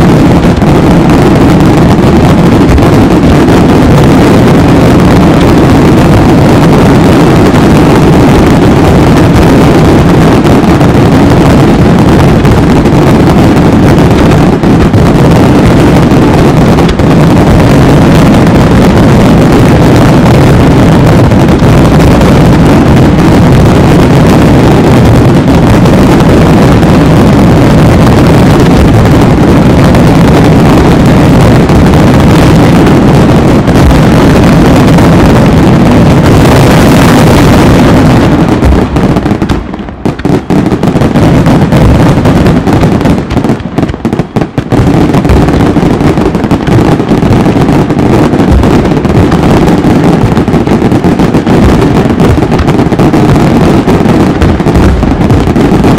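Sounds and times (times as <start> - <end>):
fireworks exploding: 0.0 - 55.9.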